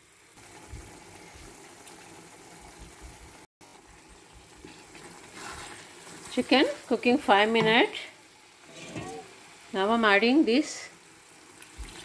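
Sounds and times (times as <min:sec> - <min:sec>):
gravy bubbling in a pan: 0:00.0 - 0:10.3, 0:10.9 - 0:12.0.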